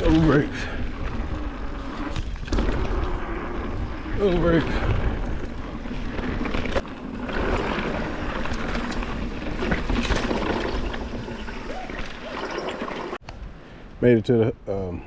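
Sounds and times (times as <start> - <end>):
bike rattles: 0.0 - 13.2
bike tyres rolling on dirt: 0.0 - 13.2.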